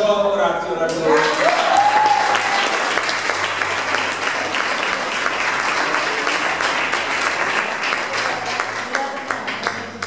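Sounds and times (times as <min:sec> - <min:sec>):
crowd applauding: 0:01.1 - 0:10.0.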